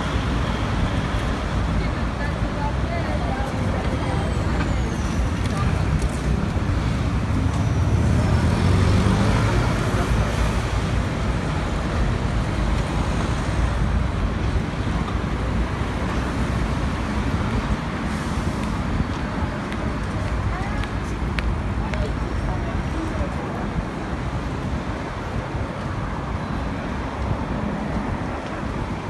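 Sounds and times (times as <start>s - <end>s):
traffic rumble: 0.0s - 29.0s.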